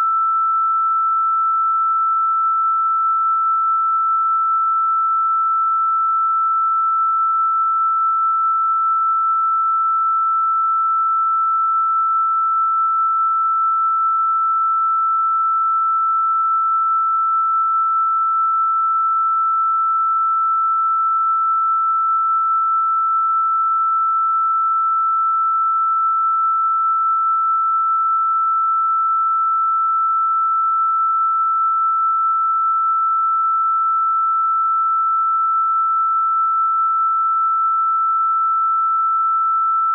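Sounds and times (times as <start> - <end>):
high electronic sine tone: 0.0 - 39.9.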